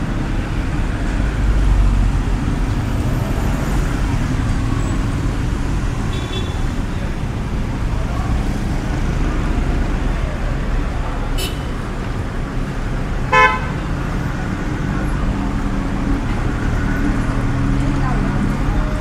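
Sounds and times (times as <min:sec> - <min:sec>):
motor vehicles passing: 0:00.0 - 0:19.0.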